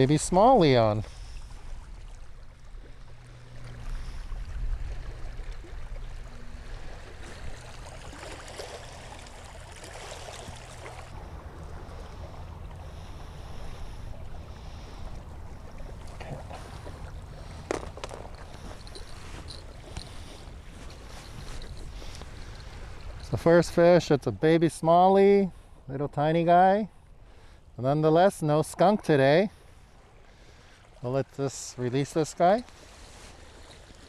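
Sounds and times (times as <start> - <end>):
water lapping at shore: 0.0 - 34.0.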